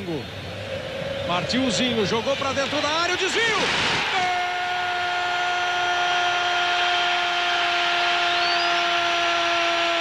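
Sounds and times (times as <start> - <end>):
stadium crowd noise: 0.0 - 10.0.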